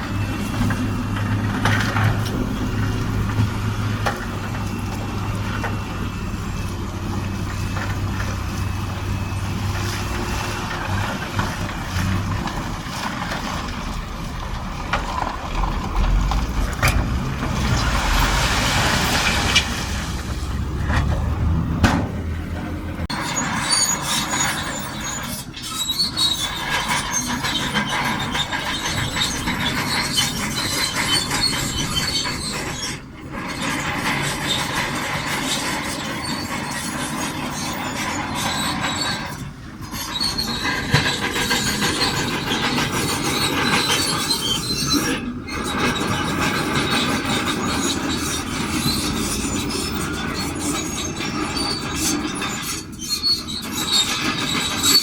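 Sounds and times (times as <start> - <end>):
bulldozer engine running: 0.0 - 55.0
bulldozer tracks squealing and clanking: 0.0 - 55.0.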